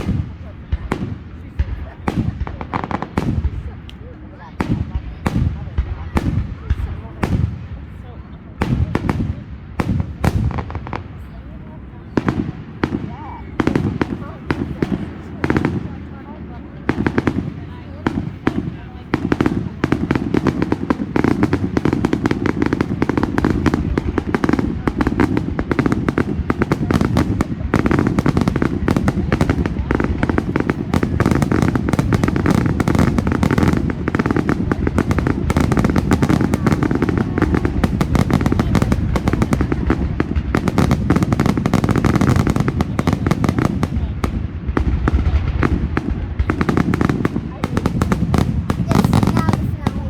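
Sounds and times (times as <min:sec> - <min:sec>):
fireworks crackling and banging: 0:00.0 - 0:50.0.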